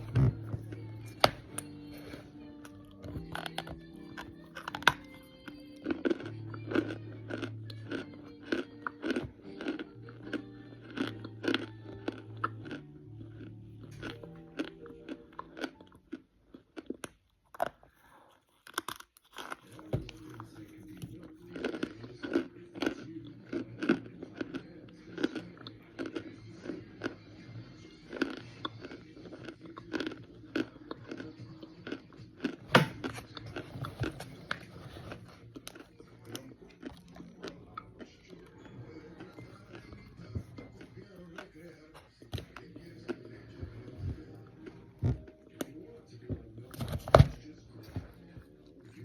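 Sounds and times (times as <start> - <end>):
background music: 0.0 - 16.7, 19.4 - 49.0
crunching and chewing bites: 0.0 - 49.0.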